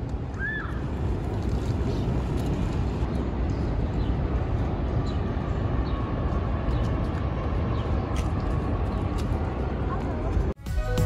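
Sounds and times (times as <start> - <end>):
low rumble of park ambience: 0.0 - 11.0.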